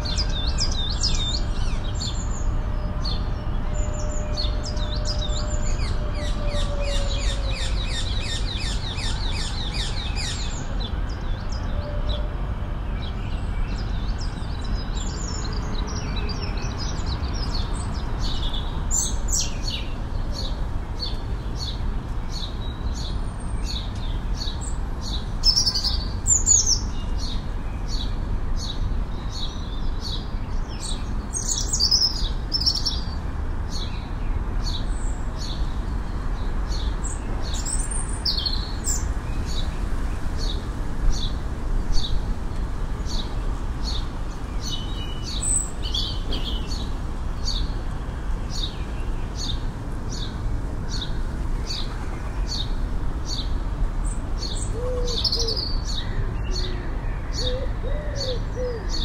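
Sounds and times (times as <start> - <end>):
low rumble of city noise: 0.0 - 59.0.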